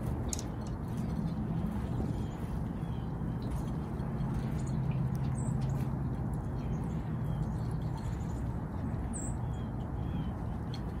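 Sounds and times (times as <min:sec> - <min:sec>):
low background rumble: 0:00.0 - 0:11.0
songbirds chipping: 0:00.0 - 0:11.0.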